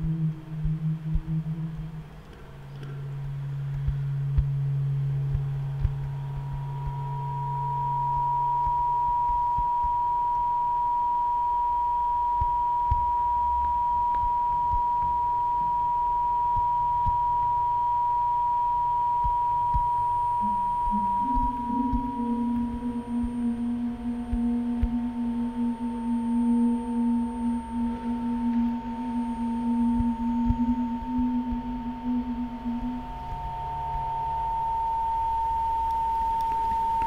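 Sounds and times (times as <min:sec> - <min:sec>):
high pure sine tone: 0:00.0 - 0:37.0
low sine tone: 0:00.0 - 0:37.0.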